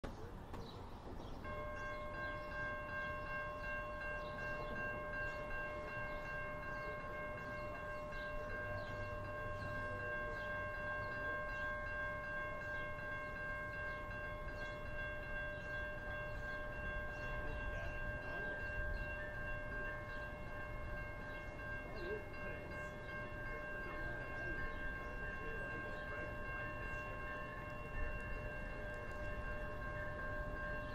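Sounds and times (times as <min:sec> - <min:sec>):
level crossing warning bell ringing: 0:01.4 - 0:30.9.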